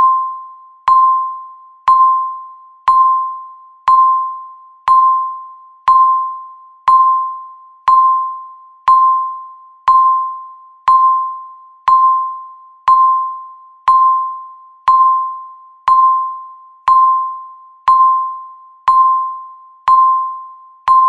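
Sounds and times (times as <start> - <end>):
countdown timer beep: 0.0 - 21.0.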